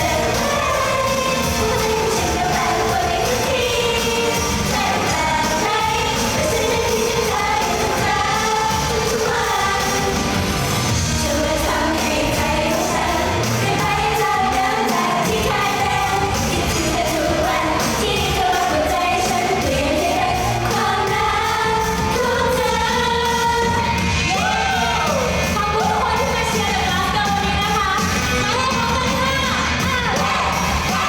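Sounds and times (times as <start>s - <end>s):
woman singing: 0.0s - 10.2s, 11.2s - 24.0s, 25.5s - 31.0s
pop backing music: 0.0s - 31.0s.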